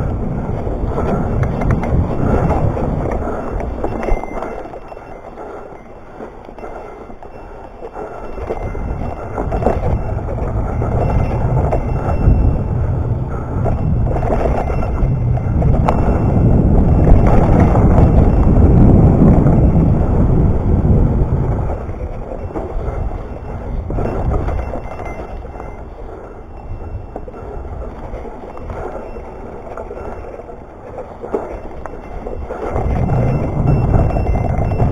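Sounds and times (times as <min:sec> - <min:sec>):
bike tyres on trail: 0:00.0 - 0:34.9
wind rumbling on microphone: 0:00.0 - 0:34.9.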